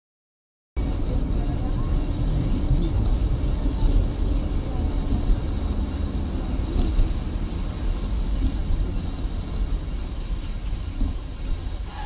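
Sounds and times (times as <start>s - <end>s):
car road and engine rumble: 0.8s - 12.0s.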